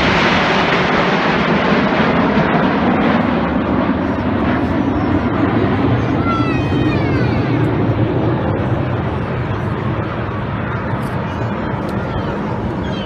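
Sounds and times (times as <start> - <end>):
jet engines rushing overhead: 0.0 - 13.0.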